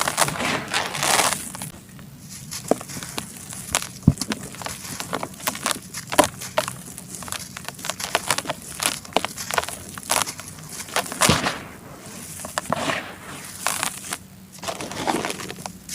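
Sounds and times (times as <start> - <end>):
charcoal crumbling and cracking: 0.0 - 15.9.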